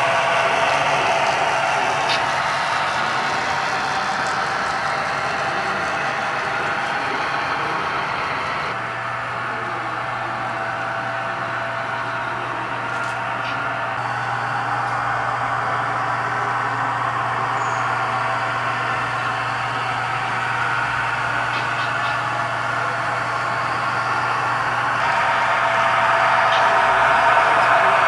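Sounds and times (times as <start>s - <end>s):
model diesel engine drone: 0.0s - 28.0s.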